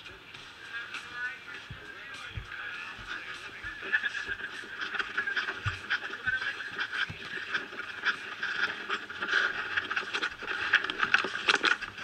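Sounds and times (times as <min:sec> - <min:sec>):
footsteps in grass: 0:00.0 - 0:12.0
rustling and handling noise: 0:00.0 - 0:12.0
small clicks and knocks: 0:01.6 - 0:12.0.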